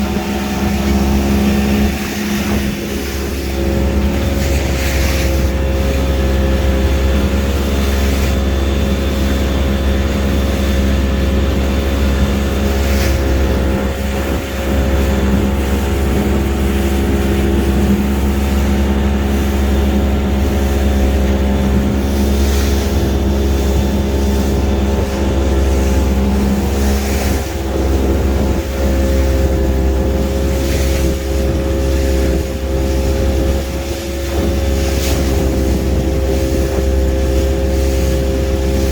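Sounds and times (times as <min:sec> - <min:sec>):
boat engine drone: 0:00.0 - 0:38.9
hull and water noise: 0:00.0 - 0:38.9.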